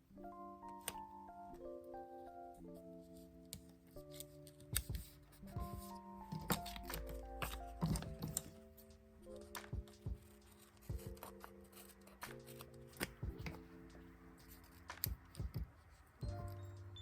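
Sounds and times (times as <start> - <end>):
soft background music: 0.0 - 17.0
paper and stickers rustling: 3.1 - 16.8.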